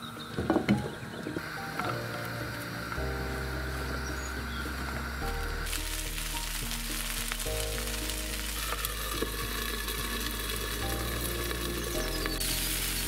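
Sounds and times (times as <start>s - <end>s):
green beans sizzling in oil: 1.4s - 13.0s.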